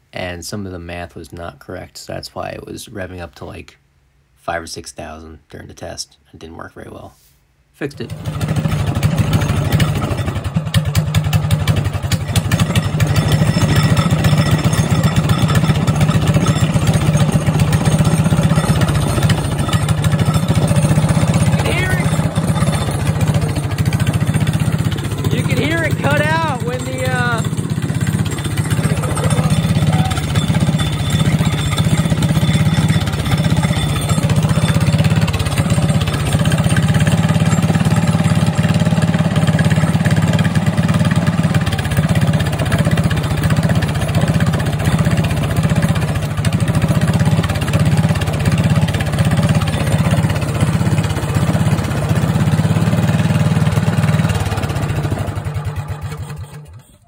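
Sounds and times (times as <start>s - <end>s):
small engine hitting rev limiter: 8.1s - 57.0s.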